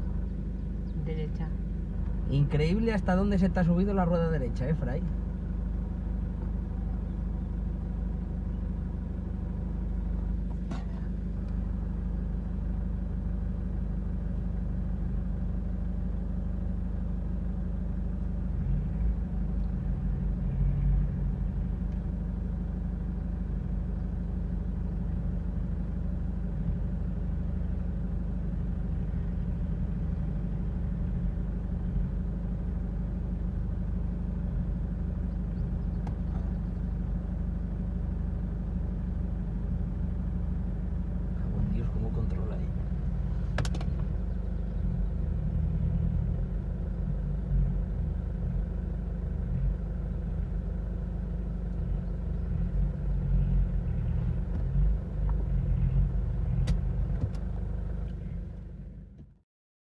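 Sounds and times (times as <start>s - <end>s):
engine running at low revs: 0.0s - 59.4s.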